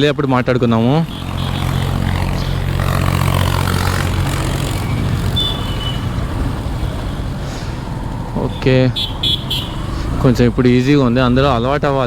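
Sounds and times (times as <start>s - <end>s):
motorcycle engine hum: 0.0s - 12.0s
road and wind noise: 0.0s - 12.0s.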